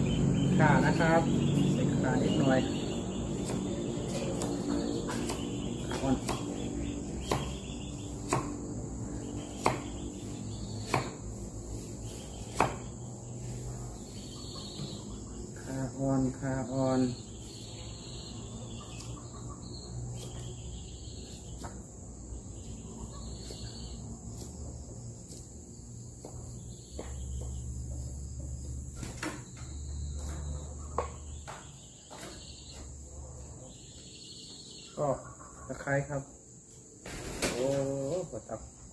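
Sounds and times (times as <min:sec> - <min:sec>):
cricket trill: 0:00.0 - 0:38.9.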